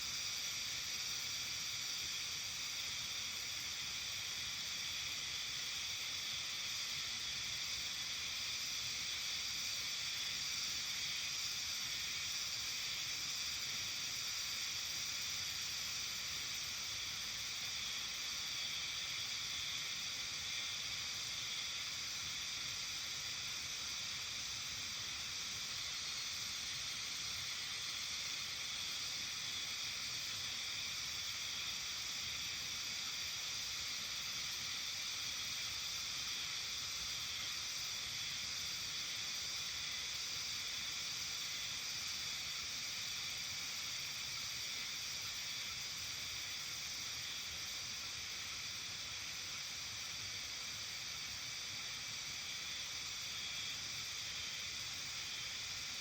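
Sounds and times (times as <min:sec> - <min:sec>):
insects trilling chorus: 0:00.0 - 0:56.0.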